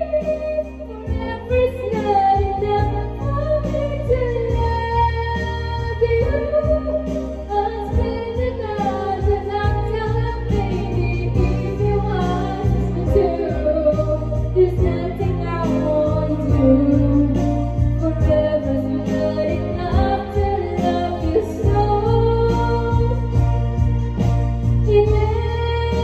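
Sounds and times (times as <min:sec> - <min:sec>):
backing track with bass line: 0:00.0 - 0:26.0
woman singing karaoke: 0:00.0 - 0:26.0.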